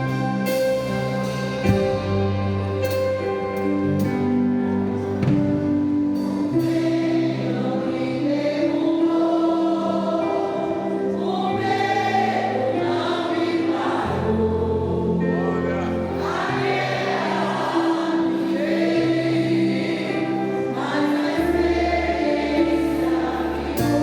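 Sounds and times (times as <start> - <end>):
choir singing a hymn: 0.0 - 24.0
held instrumental chords: 0.0 - 24.0.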